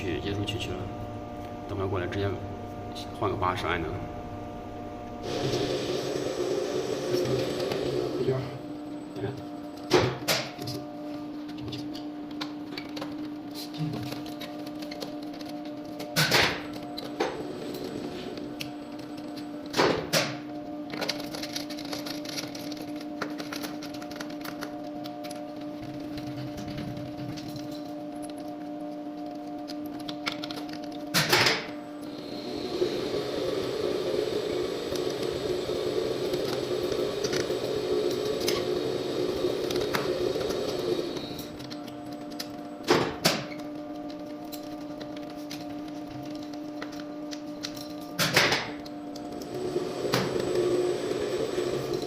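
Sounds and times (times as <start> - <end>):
machine running with high whine: 0.0 - 52.0
steady electrical hum: 0.0 - 52.0.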